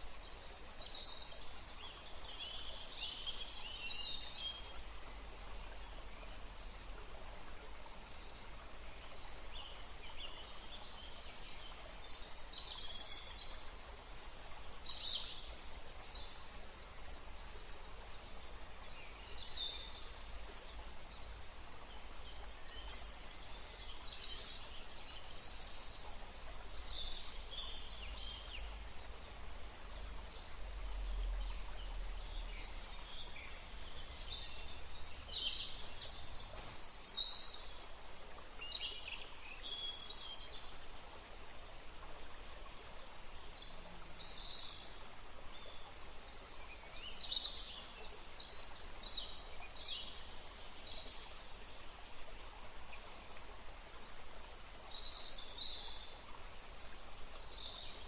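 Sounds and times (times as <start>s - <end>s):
faint background hiss: 0.0s - 58.0s.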